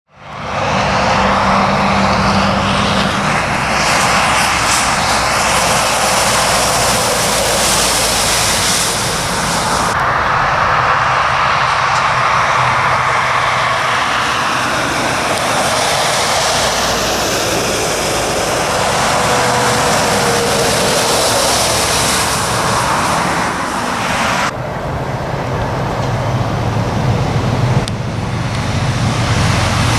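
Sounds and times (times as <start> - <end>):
diesel engine drone: 0.1 - 29.9
tyres hissing on wet road: 0.2 - 29.9.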